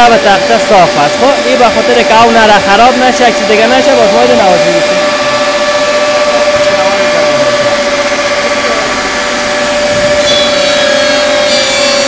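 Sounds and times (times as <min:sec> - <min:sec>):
edge banding machine whining: 0:00.0 - 0:12.0
higher-pitched whine: 0:00.0 - 0:12.0.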